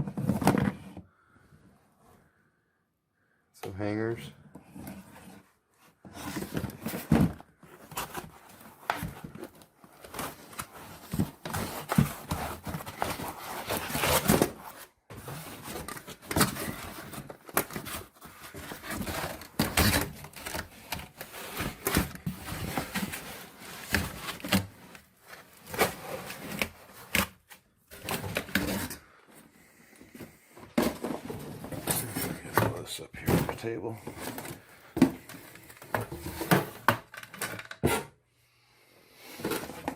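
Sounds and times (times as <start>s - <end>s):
packaging rustling and crinkling: 4.8s - 37.6s.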